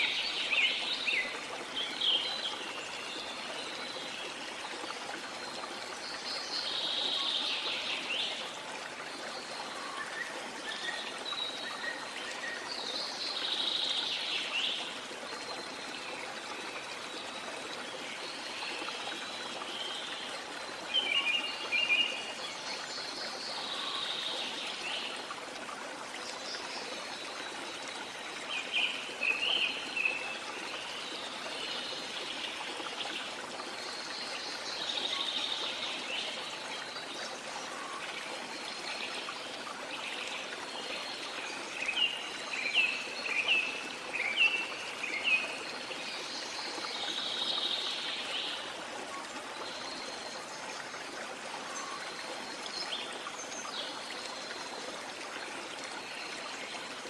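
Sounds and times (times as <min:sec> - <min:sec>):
rushing falling water: 0:00.0 - 0:57.0.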